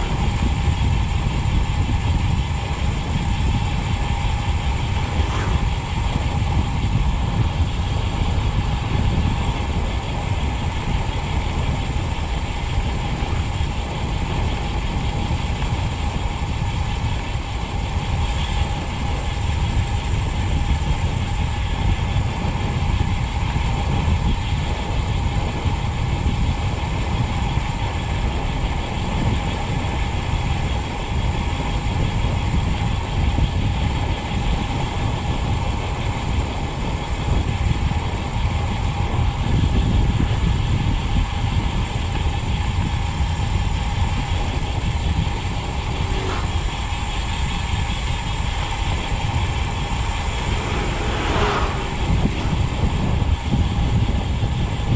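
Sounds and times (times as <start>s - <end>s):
bicycle freehub ratchet buzzing: 0.0s - 54.9s
heavy wind: 0.0s - 54.9s.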